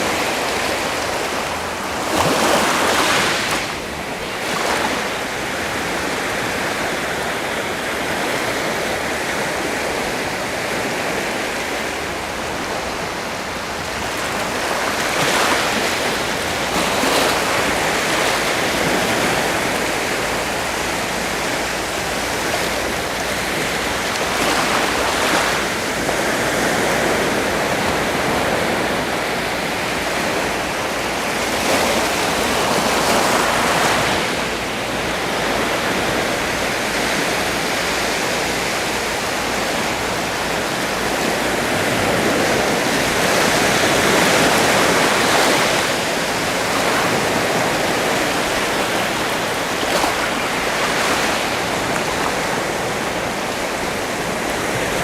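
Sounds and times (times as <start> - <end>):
sea surf washing in: 0.0 - 55.0
waves surging and receding: 0.0 - 55.0.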